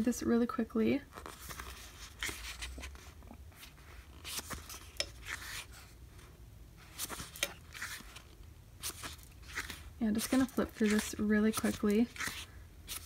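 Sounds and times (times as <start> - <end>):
book pages turning: 1.1 - 13.0.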